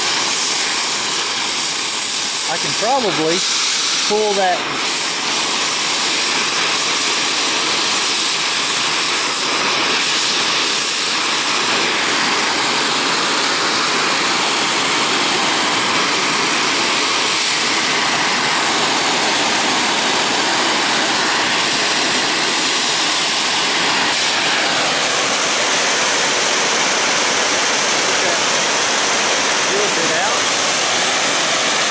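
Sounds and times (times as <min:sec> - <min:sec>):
cutting torch hissing: 0:00.0 - 0:31.9.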